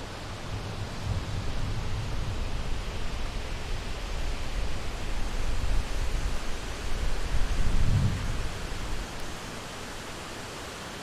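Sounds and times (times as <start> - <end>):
steady hiss: 0.0 - 11.0
wind buffeting microphone: 0.2 - 9.9.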